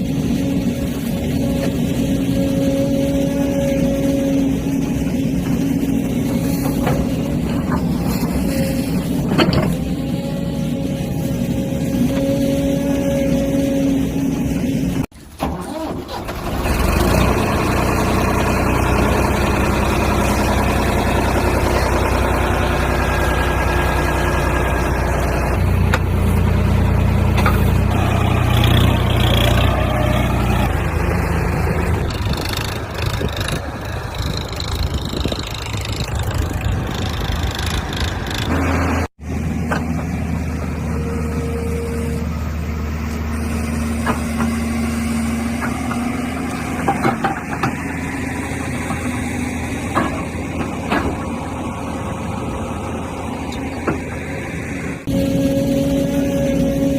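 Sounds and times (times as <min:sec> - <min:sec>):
diesel engines running: 0:00.0 - 0:56.9.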